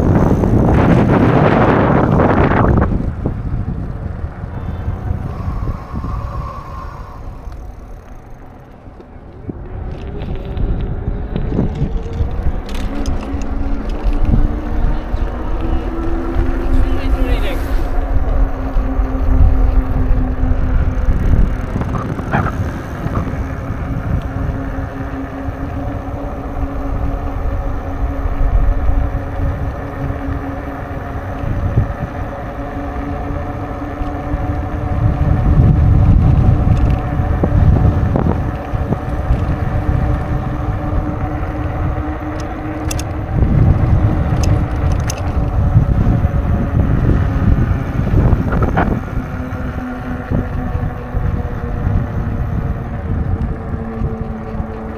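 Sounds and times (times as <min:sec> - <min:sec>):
steady droning hum: 0:00.0 - 0:54.9
wind buffeting microphone: 0:00.0 - 0:54.9.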